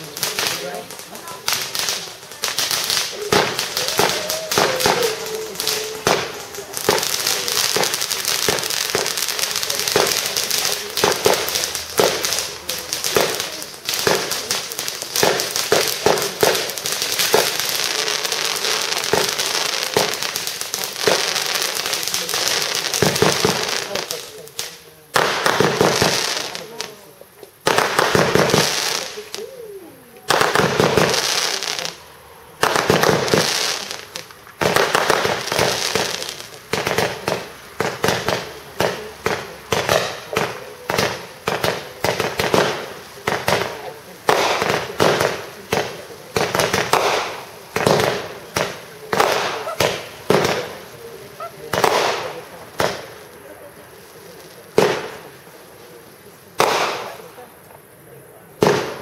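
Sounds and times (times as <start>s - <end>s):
fireworks bursting with bangs: 0.0s - 59.0s
fireworks crackling hiss: 0.0s - 59.0s
fireworks launches: 0.0s - 59.0s.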